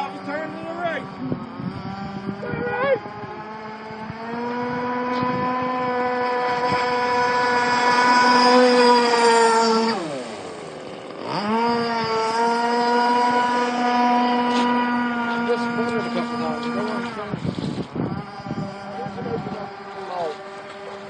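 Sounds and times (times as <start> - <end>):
model boat motor whining: 0.0 - 21.0.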